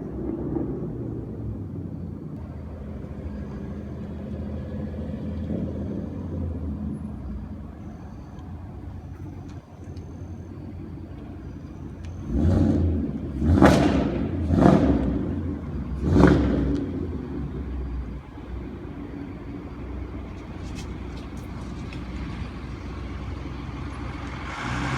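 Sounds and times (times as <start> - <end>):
car engine idling and revving: 0.0 - 24.9.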